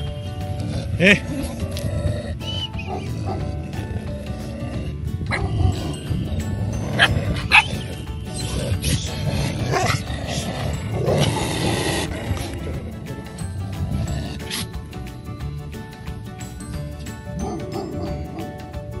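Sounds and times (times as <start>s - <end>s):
dogs barking and yipping: 0.0s - 15.0s, 16.7s - 19.0s
background music: 0.0s - 19.0s.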